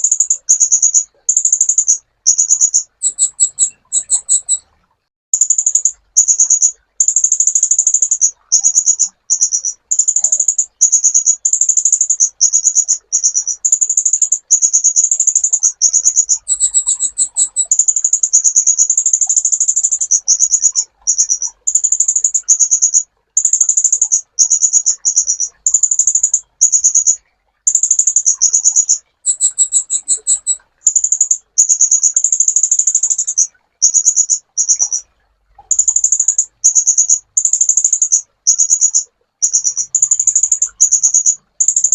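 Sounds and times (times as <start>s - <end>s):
bird high buzzing trills: 0.0s - 4.7s, 5.4s - 35.0s.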